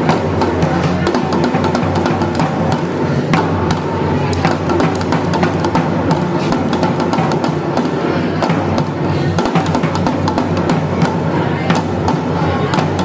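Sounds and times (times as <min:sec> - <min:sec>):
drums played in fast rhythm: 0:00.0 - 0:13.0.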